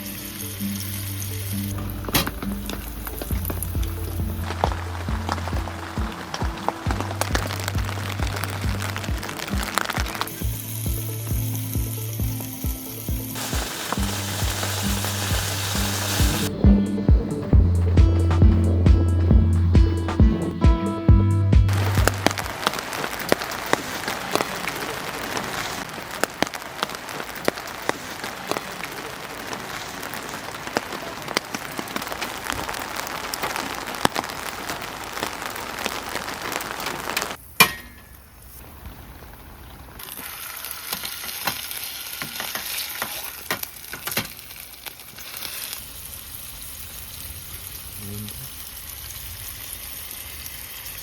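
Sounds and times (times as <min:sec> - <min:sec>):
rain pattering: 0:00.0 - 0:19.2, 0:21.7 - 0:37.4, 0:38.1 - 0:51.0
steady high hiss: 0:00.0 - 0:51.0.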